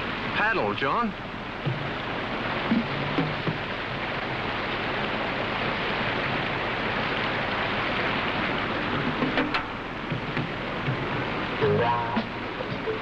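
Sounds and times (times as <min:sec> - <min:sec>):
white-water rapid rushing: 0:00.0 - 0:13.0.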